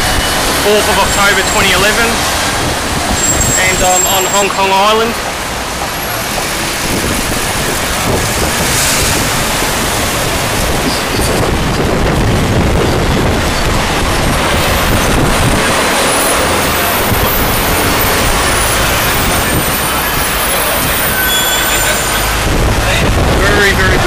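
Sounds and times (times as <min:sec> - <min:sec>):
wind rumbling on microphone: 0:00.0 - 0:21.2, 0:22.2 - 0:24.0
city road traffic: 0:00.0 - 0:24.0.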